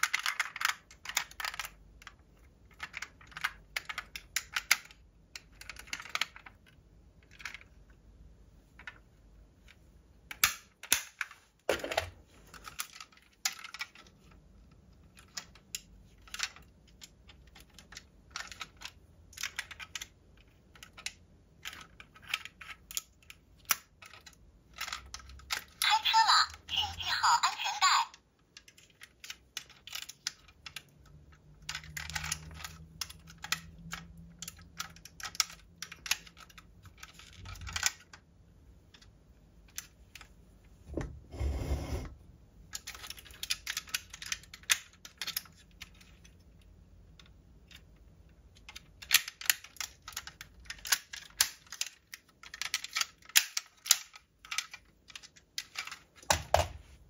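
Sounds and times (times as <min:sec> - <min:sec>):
toy truck parts clicking: 0:00.0 - 0:07.9, 0:09.6 - 0:11.4, 0:12.0 - 0:38.2, 0:38.9 - 0:40.3, 0:42.7 - 0:56.4.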